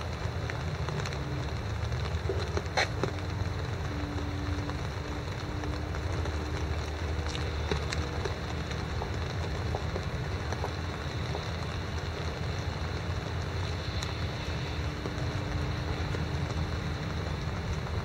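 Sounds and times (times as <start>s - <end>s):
low steady rumble: 0.0s - 18.0s
steady rain falling: 0.0s - 18.0s.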